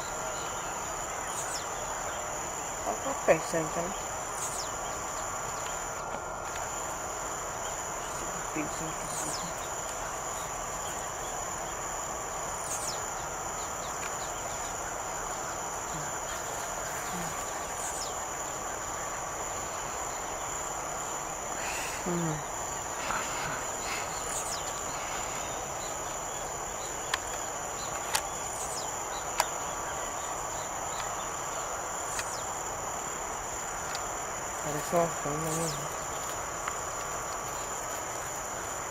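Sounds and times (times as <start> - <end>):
bird song phrase: 0.0 - 6.2, 7.6 - 20.5, 21.6 - 32.6, 34.6 - 36.2
high-pitched insect drone: 0.0 - 38.9.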